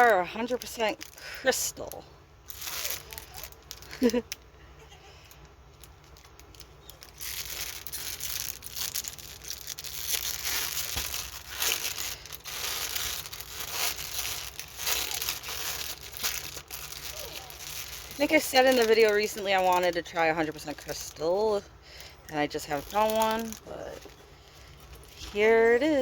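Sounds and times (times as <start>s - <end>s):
plastic packaging crinkling: 0.0s - 4.5s, 5.3s - 26.0s.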